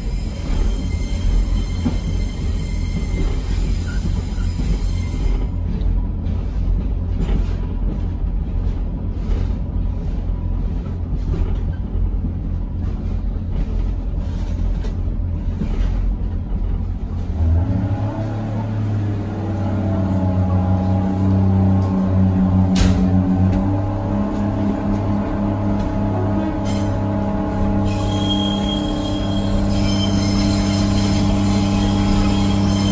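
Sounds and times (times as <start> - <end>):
humming train engine: 0.0 - 32.9
train diesel and wheels rumbling: 0.0 - 32.9.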